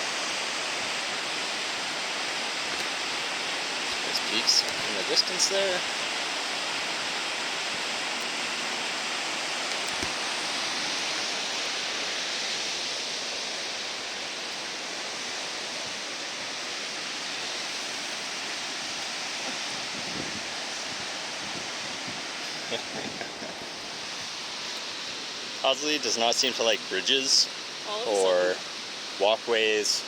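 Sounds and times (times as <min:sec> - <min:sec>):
river rushing: 0:00.0 - 0:30.0.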